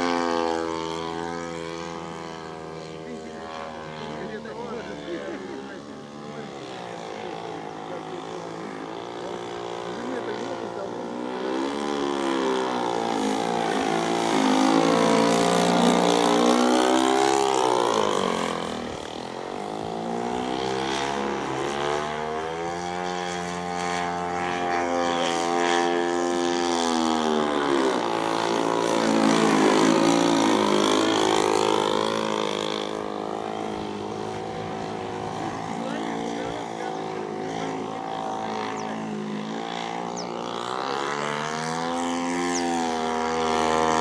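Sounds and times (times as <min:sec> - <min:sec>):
model airplane engine flying overhead: 0:00.0 - 0:44.0.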